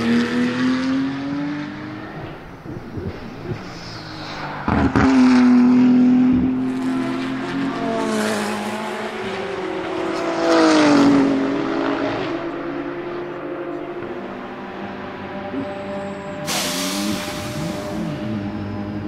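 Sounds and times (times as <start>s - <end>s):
race car engine passing at high revs: 0.0s - 19.0s.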